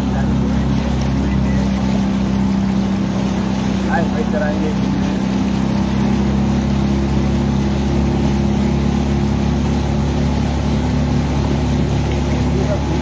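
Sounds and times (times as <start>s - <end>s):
hiss of wind and water: 0.0s - 13.0s
outboard motor running: 0.0s - 13.0s.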